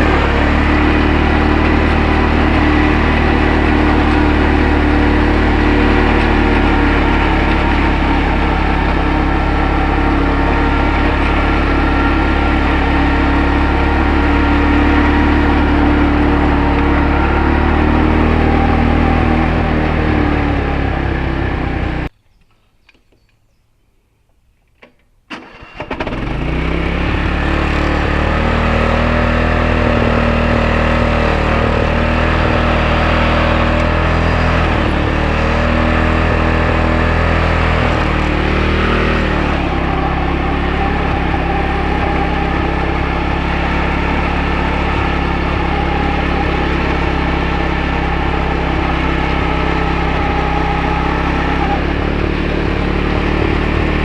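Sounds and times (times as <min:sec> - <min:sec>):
garden tractor engine running: 0:00.0 - 0:22.1, 0:25.3 - 0:54.0.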